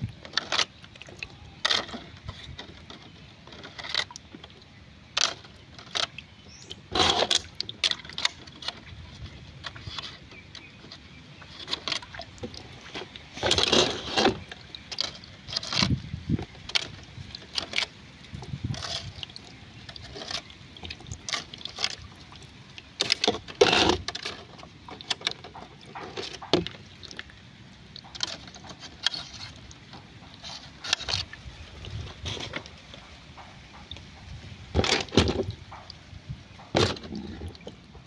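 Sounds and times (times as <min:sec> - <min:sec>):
water sloshing and splashing: 0:00.0 - 0:38.0.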